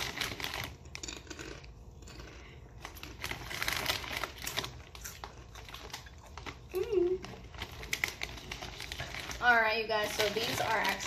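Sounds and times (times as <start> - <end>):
potato chips crunching: 0.0 - 11.0.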